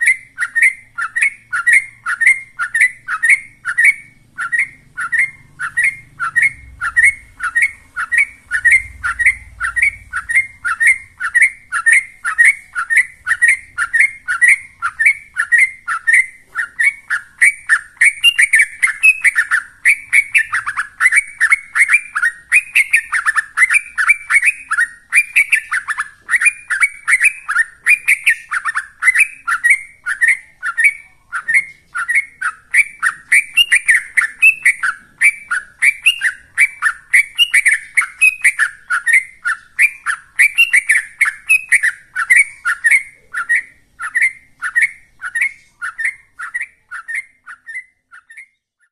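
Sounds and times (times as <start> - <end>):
bird singing whistled notes: 0.0 - 48.9.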